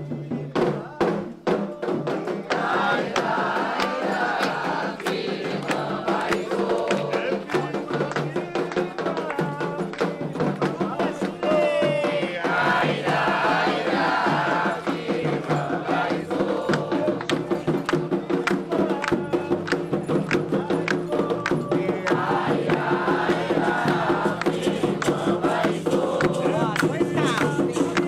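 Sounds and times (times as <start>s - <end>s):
percussion beat: 0.0s - 28.0s
group of voices chanting: 1.5s - 28.0s.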